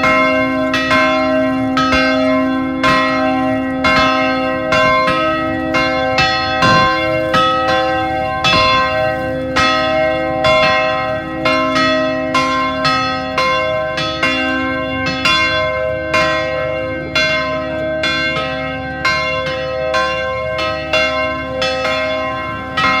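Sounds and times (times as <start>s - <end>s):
carillon bells ringing: 0.0s - 23.0s.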